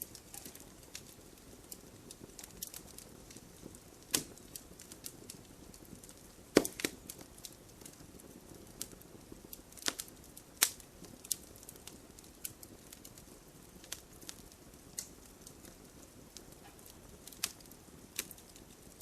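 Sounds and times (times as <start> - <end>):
faint steady hiss: 0.0 - 19.0
wood fire crackling: 0.0 - 19.0.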